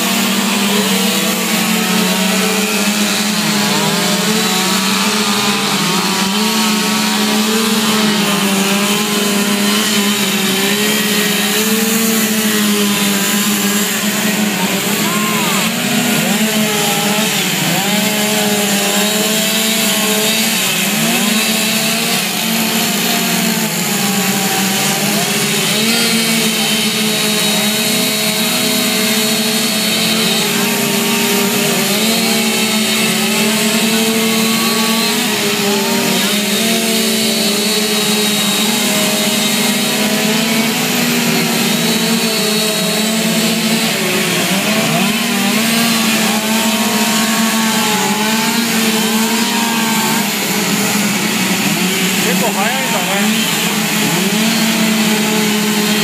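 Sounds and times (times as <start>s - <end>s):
chainsaws cutting wood: 0.0s - 56.0s.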